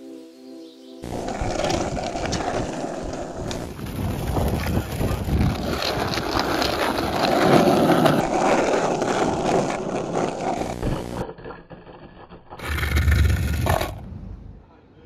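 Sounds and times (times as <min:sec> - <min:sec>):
skateboard wheels rolling on asphalt: 0:01.0 - 0:14.1.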